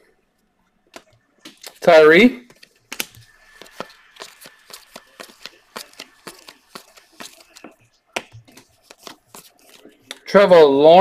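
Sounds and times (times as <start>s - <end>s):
cards flipped by hand: 0.9s - 10.2s.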